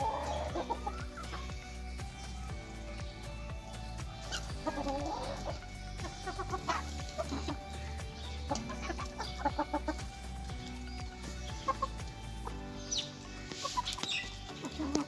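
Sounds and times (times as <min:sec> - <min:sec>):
chickens clucking: 0:00.0 - 0:02.4, 0:04.3 - 0:15.0
background music: 0:00.0 - 0:15.0.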